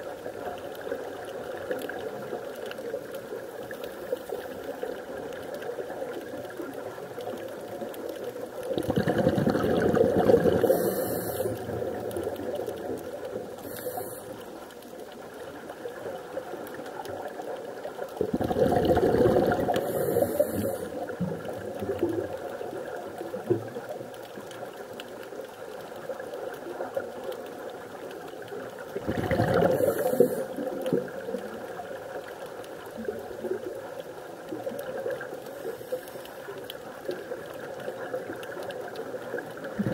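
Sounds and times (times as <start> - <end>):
faint steady hiss: 0.0 - 39.9
underwater exhaled air bubbling: 0.0 - 39.9.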